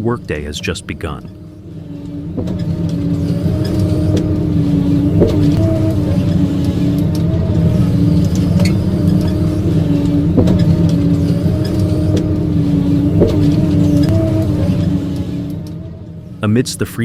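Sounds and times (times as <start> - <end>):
held machine whine: 0.0 - 16.6
harvester engine running: 0.0 - 17.0.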